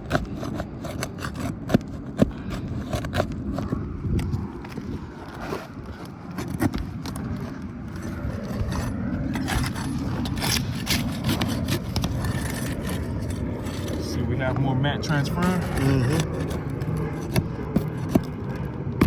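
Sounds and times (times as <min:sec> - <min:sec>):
pry bar scraping shingles: 0:00.0 - 0:18.8.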